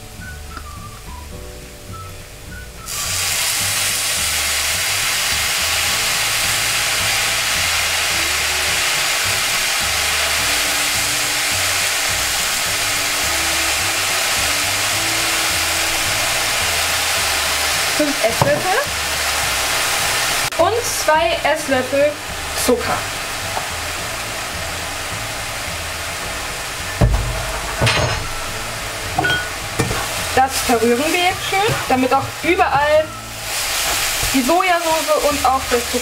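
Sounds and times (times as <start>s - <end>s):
sauce sizzling in a hot pan: 0.0s - 36.0s.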